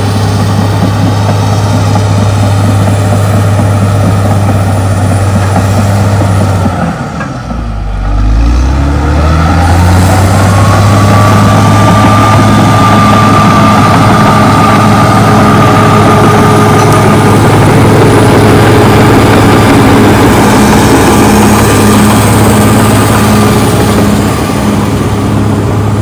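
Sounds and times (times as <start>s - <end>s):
bulldozer diesel engine revving: 0.0s - 26.0s.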